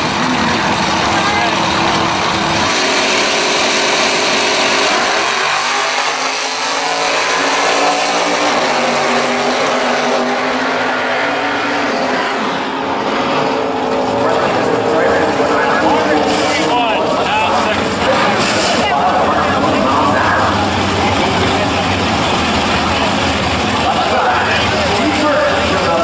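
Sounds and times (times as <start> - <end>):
drag racing cars at full throttle: 0.0 - 26.0.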